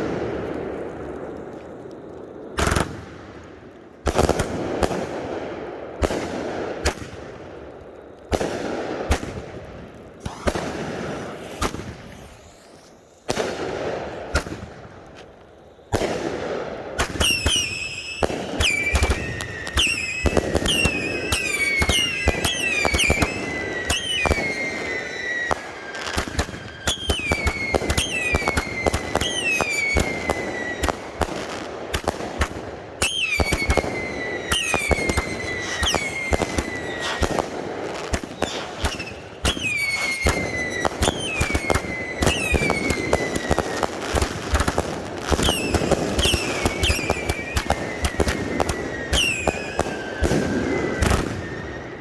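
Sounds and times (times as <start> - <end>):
fireworks bangs with whistles: 0.0 - 52.0.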